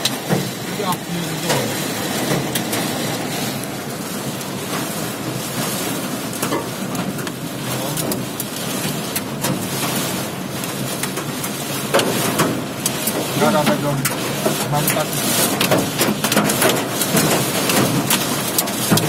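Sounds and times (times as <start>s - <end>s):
heavy rain on car roof: 0.0s - 19.0s.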